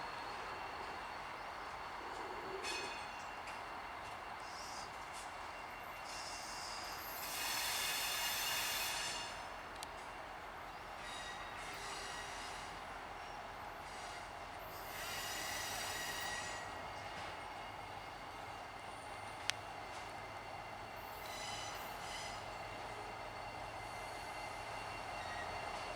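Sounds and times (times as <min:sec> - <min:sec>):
train cars rumbling: 0:00.0 - 0:25.9
train wheels squealing: 0:00.0 - 0:25.9.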